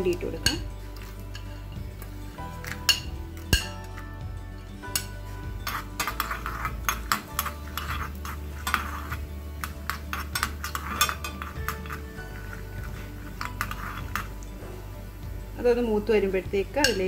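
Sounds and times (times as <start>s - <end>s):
metal spoon scraping frying pan: 0.0s - 14.9s.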